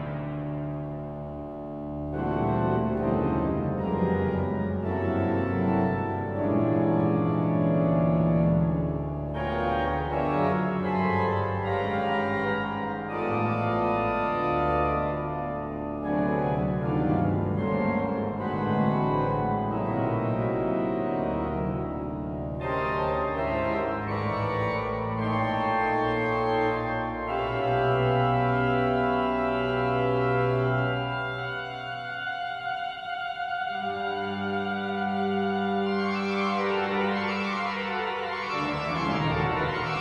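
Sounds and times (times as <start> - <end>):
pipe organ chords: 0.0 - 40.0.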